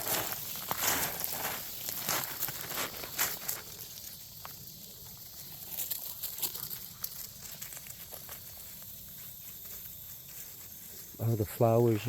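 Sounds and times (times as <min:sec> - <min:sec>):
footsteps on dry leaves: 0:00.0 - 0:11.7
faint steady hiss: 0:00.0 - 0:12.0.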